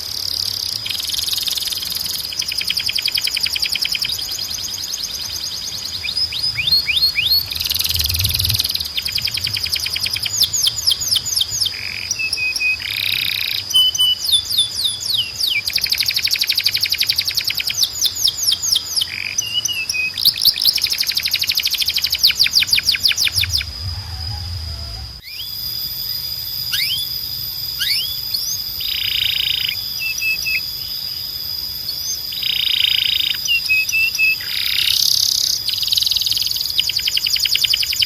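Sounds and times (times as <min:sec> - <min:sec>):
canary singing trills: 0:00.0 - 0:38.0
steady high whistle tone: 0:00.8 - 0:38.0.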